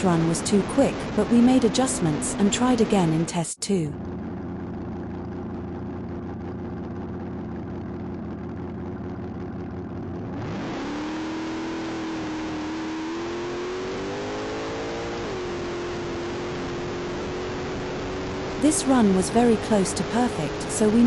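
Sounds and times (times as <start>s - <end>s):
dragster engine revving: 0.0s - 3.2s, 4.0s - 21.0s
wind and road noise: 4.1s - 21.0s.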